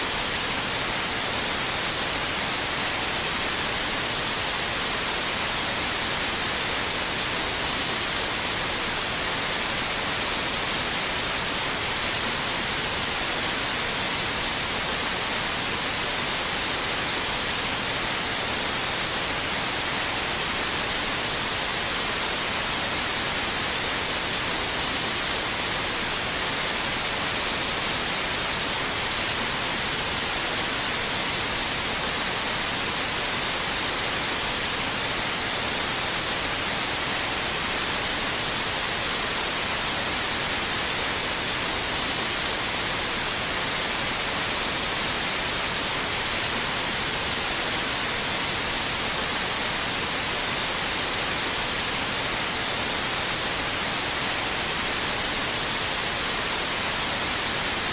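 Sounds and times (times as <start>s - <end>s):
white noise hiss: 0.0s - 57.9s.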